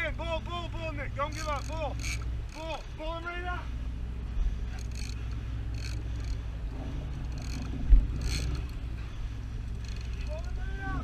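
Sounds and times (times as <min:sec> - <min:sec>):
boat engine rumble: 0:00.0 - 0:11.0
wind at sea: 0:00.0 - 0:11.0.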